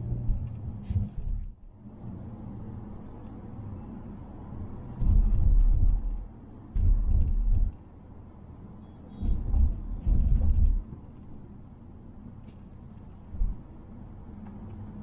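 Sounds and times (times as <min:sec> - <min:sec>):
car cabin road hum: 0:00.0 - 0:15.0.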